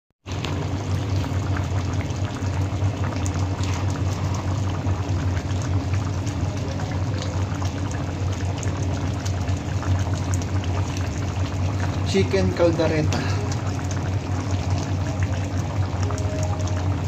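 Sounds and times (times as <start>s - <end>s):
stew bubbling with pops: 0.2s - 17.0s.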